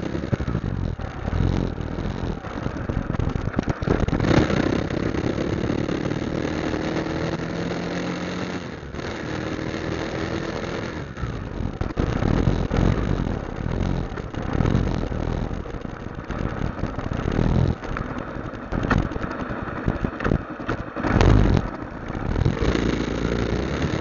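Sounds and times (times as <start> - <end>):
constant rushing noise: 0.0 - 24.0
motorcycle engine hum: 0.0 - 24.0.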